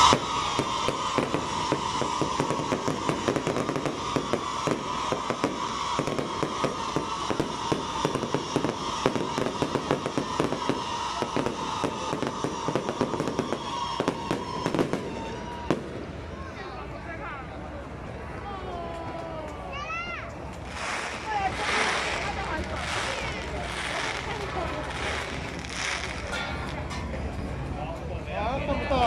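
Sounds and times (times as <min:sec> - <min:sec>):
fireworks crackling and popping: 0:00.0 - 0:17.0, 0:19.0 - 0:27.8.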